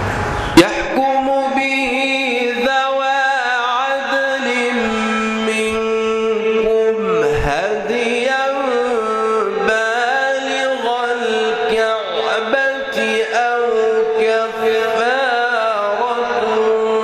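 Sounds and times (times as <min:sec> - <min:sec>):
man chanting melodically: 0:00.6 - 0:17.0.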